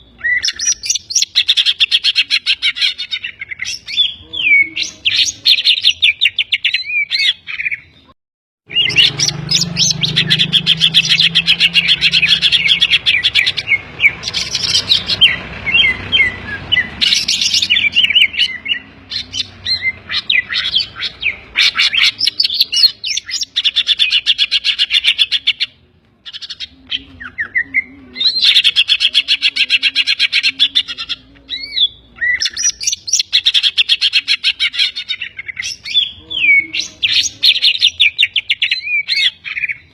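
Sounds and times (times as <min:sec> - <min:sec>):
bird chattering trills and whistles: 0:00.0 - 0:08.1, 0:08.7 - 0:39.9.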